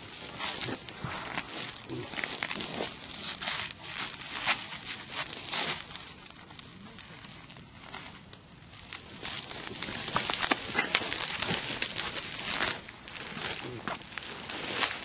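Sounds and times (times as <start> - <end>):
plastic sheeting crinkling: 0.0 - 15.0.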